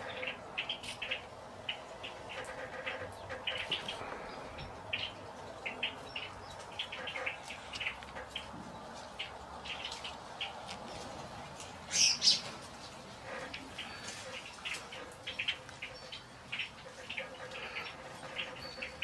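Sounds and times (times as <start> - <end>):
blackbirds chip calls: 0.0 - 19.0.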